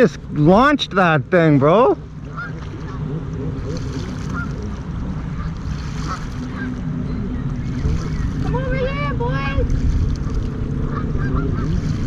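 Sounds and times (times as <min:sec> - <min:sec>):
jet ski engine drone: 0:00.0 - 0:12.0
wind rumble on microphone: 0:01.9 - 0:12.0.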